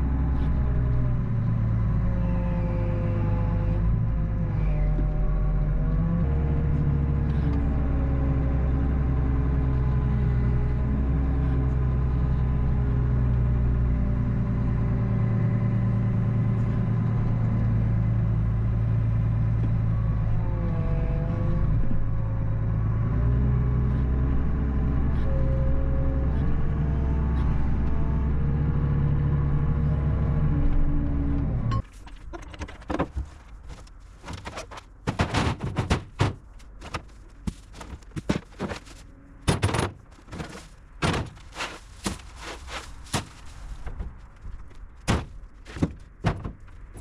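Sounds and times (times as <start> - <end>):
diesel engine running: 0.0 - 31.8, 36.0 - 47.0.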